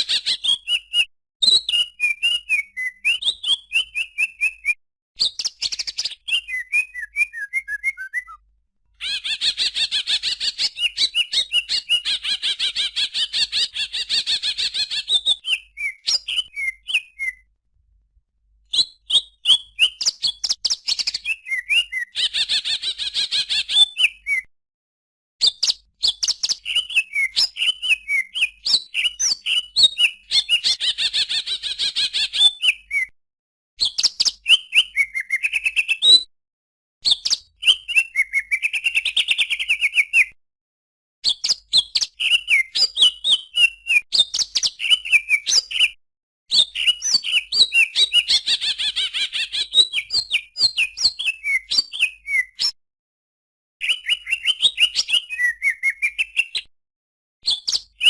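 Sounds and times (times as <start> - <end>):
bird chirping and trilling: 0.0 - 8.4, 9.0 - 17.5, 18.7 - 24.4, 25.4 - 33.1, 33.8 - 36.2, 41.2 - 52.8, 53.8 - 56.6.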